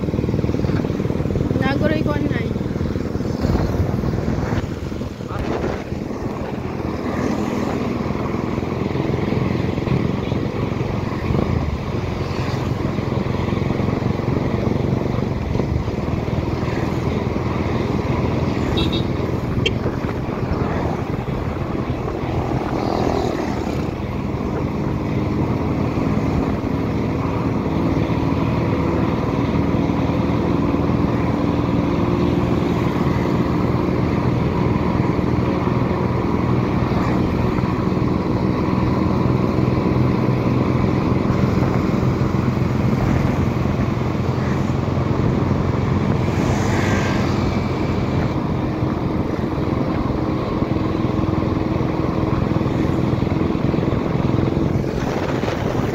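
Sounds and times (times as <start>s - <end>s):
road and wind rush: 0.0s - 55.9s.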